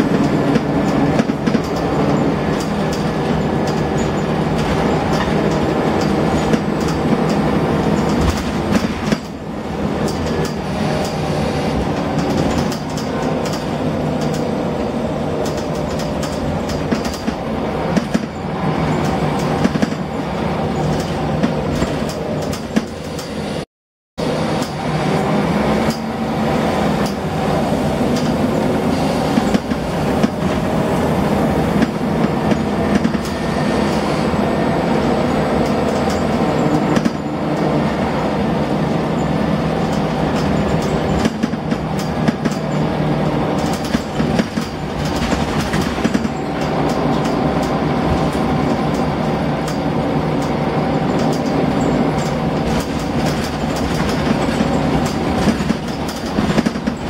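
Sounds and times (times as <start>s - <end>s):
bus body knocks and rattles: 0.0s - 23.4s, 31.7s - 33.4s, 35.0s - 37.8s, 38.9s - 57.0s
bus diesel engine: 0.0s - 57.0s.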